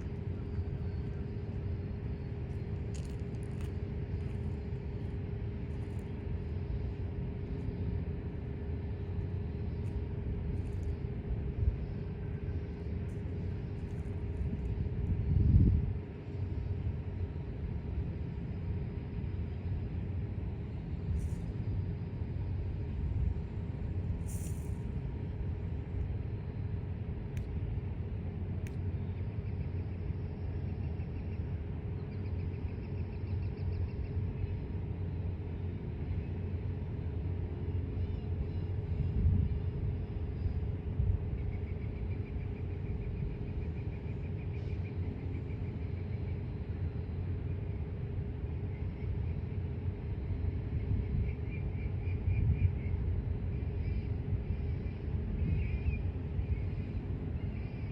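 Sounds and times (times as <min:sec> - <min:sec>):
freight train rumble: 0:00.0 - 0:57.9
steady hum: 0:00.0 - 0:57.9.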